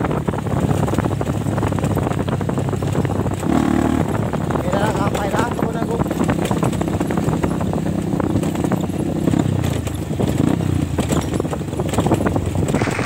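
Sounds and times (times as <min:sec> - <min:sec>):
dirt bike engine running: 0:00.0 - 0:13.0
knocks and rattles: 0:00.1 - 0:13.0.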